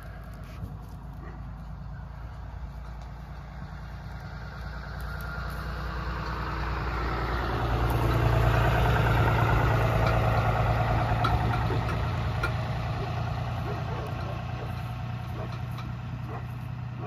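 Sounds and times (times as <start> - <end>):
truck engine hum: 0.0 - 17.0.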